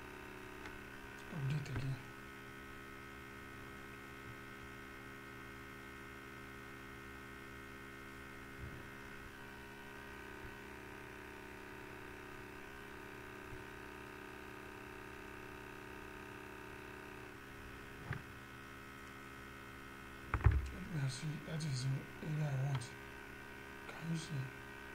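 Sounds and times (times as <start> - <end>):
electrical mains hum: 0.0 - 24.9.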